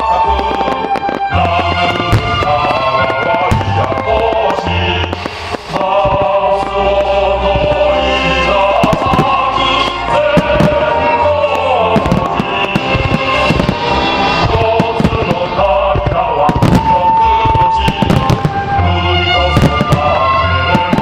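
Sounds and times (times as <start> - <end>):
fireworks bangs and crackles: 0.0 - 21.0
music with sustained notes: 0.0 - 21.0.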